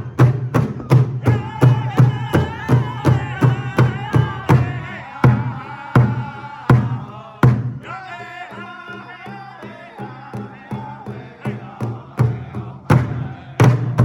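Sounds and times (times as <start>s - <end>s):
big drum beating: 0.0s - 14.0s
group singing in high voices: 0.0s - 14.0s.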